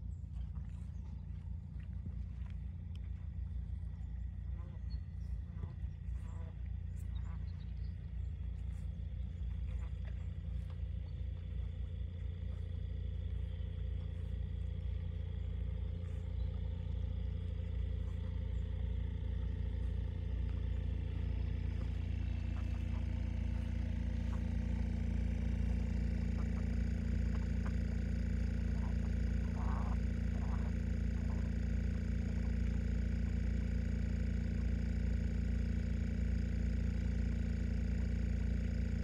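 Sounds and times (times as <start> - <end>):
distant traffic rumble: 0.0 - 33.7
faint hum: 0.0 - 39.0.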